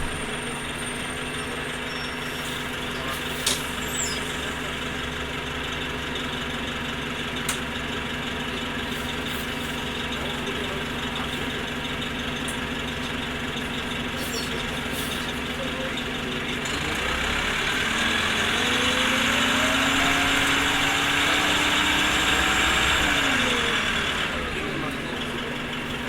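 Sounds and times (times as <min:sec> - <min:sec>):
bus diesel engine: 0:00.0 - 0:26.0.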